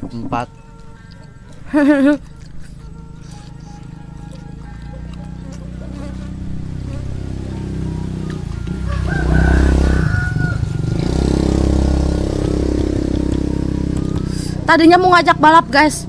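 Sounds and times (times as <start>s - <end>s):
motorcycle engine passing: 0.0s - 16.0s.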